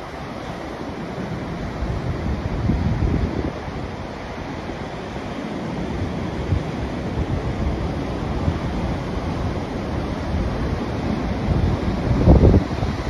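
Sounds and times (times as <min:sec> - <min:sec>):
ocean waves breaking on rocks: 0:00.0 - 0:13.0
wind rumble on microphone: 0:00.0 - 0:13.0.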